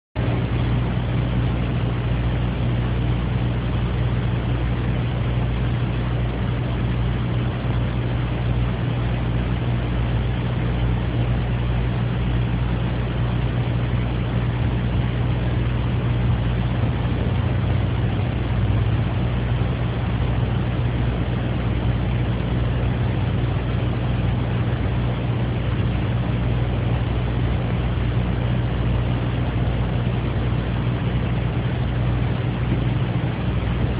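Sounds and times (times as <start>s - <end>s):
steady low hum: 0.2s - 33.9s.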